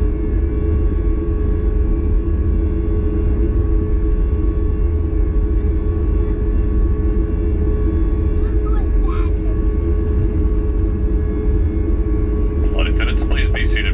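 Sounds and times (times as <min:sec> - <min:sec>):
airplane cabin engine rumble: 0:00.0 - 0:13.9
steady hum and whine: 0:00.0 - 0:13.9.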